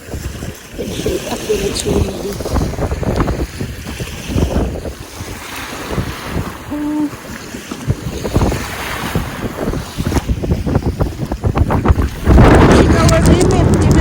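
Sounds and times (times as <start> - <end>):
lake waves washing: 0.0 - 14.0
wind buffeting microphone: 0.0 - 14.0.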